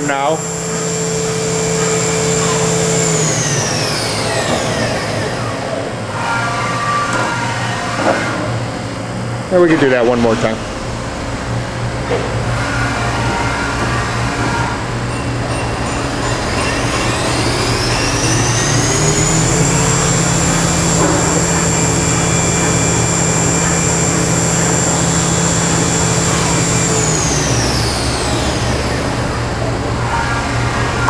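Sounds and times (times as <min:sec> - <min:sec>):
low machine hum: 0:00.0 - 0:31.0
spindle motor whine: 0:00.0 - 0:31.0.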